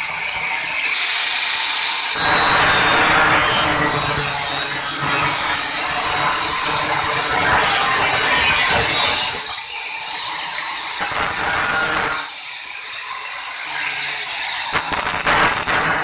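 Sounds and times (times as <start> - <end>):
angle grinder cutting metal: 2.1 - 16.0.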